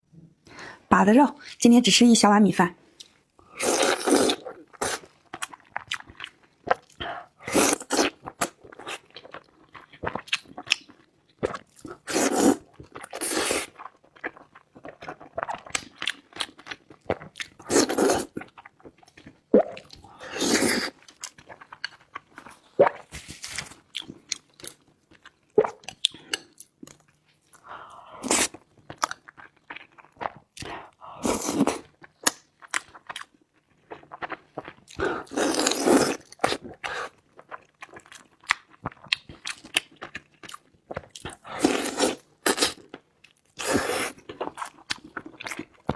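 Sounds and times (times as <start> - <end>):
chewing and crunching food: 2.9 - 45.9.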